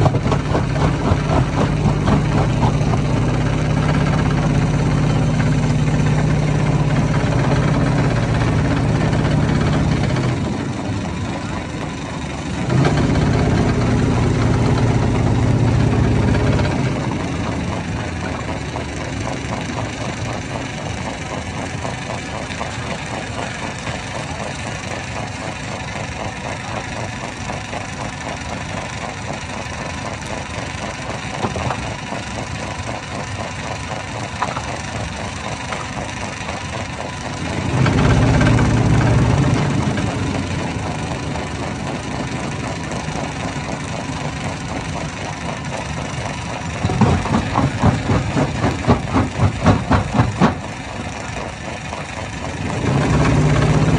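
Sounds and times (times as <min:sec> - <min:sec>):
stone-crushing hammer machine: 0:07.8 - 0:53.9.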